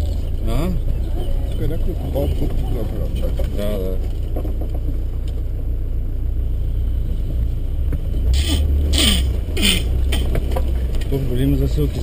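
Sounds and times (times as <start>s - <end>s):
diesel engine running low: 0.0s - 12.0s.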